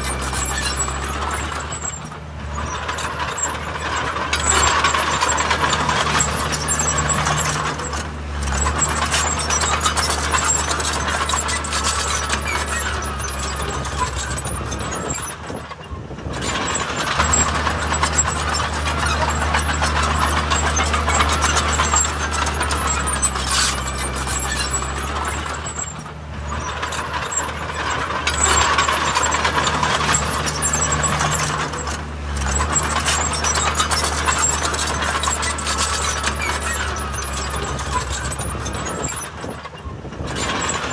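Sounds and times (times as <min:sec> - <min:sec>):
bulldozer diesel engine running: 0:00.0 - 0:40.9
metallic track clatter: 0:00.0 - 0:40.9.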